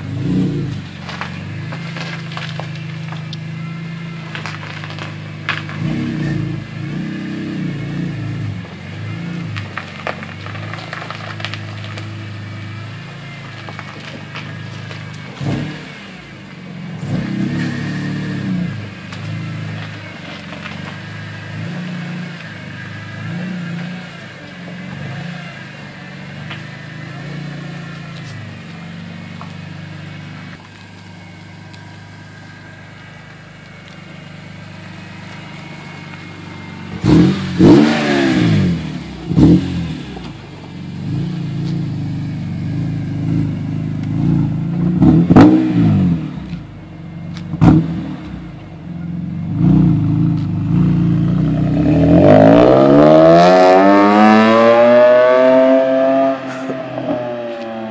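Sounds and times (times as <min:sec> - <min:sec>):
car engine idling and revving: 0:00.0 - 0:57.9.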